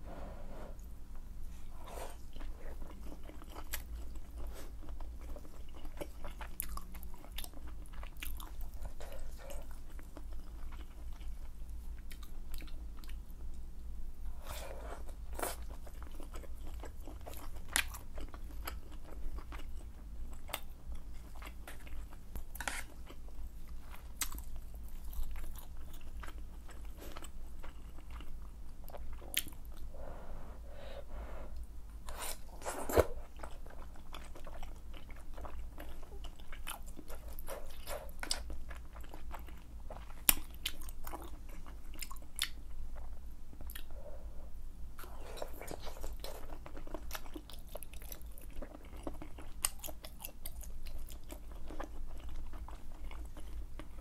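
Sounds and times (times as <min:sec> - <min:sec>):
faint low hum: 0:00.0 - 0:54.0
person chewing and eating: 0:01.7 - 0:13.6, 0:14.3 - 0:54.0.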